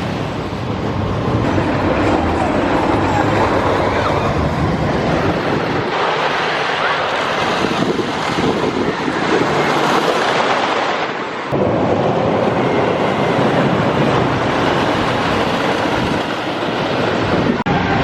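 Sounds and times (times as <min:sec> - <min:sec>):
roller coaster rumbling on track: 0:00.0 - 0:18.0
wind buffeting microphone: 0:00.0 - 0:18.0.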